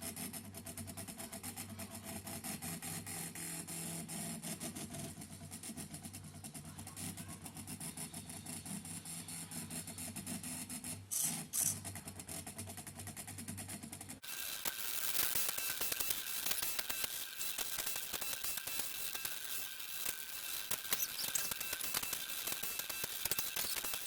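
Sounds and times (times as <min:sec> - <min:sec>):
stepper motors buzzing and ticking: 0:00.3 - 0:24.0.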